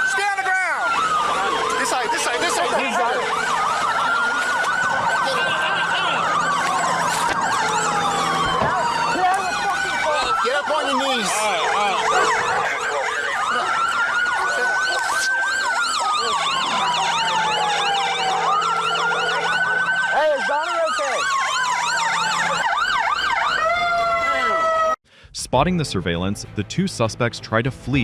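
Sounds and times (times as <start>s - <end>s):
police siren wailing: 0.0s - 25.0s
police siren yelping: 0.0s - 25.0s.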